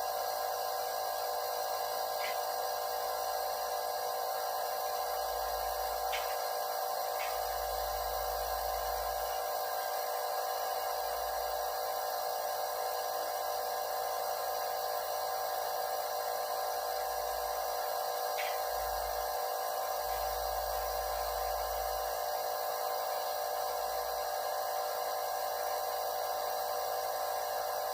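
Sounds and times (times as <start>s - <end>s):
nebulizer compressor humming: 0.0s - 27.9s.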